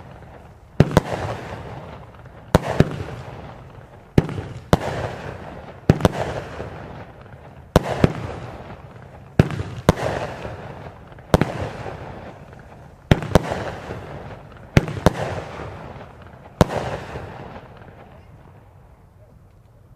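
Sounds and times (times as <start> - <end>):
firework bangs: 0.0 - 18.9.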